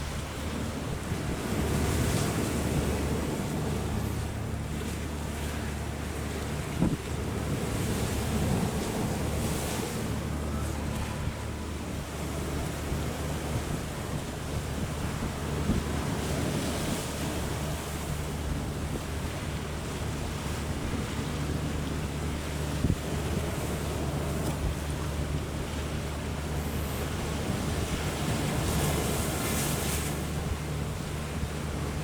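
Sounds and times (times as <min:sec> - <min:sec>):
low steady rumble: 0:00.0 - 0:32.0
rough waves: 0:00.0 - 0:32.0
wind buffeting microphone: 0:00.0 - 0:32.0.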